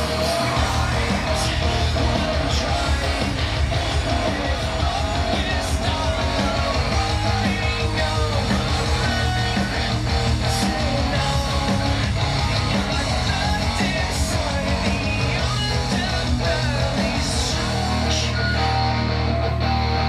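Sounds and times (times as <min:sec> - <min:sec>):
person singing: 0:00.0 - 0:18.9
rock music with guitar: 0:00.0 - 0:20.0.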